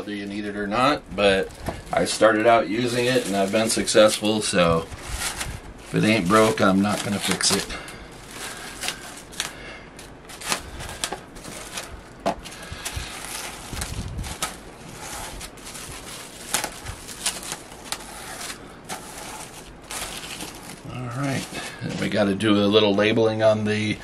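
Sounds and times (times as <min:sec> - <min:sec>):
plastic wrap crinkling: 0:00.0 - 0:23.1.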